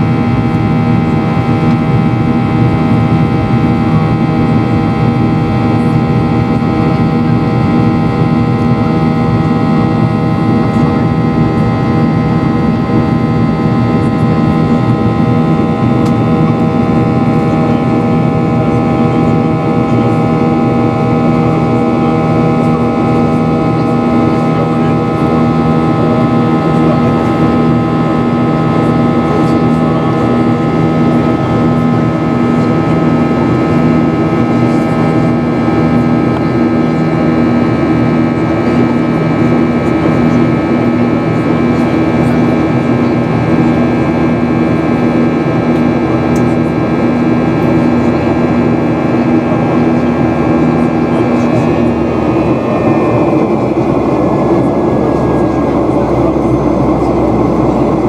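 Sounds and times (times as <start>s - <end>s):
airplane cabin engine hum: 0.0s - 58.0s.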